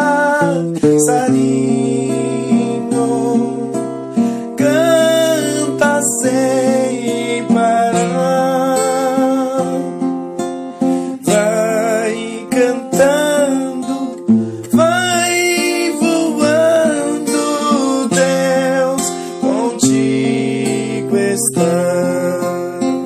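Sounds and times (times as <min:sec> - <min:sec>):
acoustic guitar accompaniment: 0:00.0 - 0:23.0.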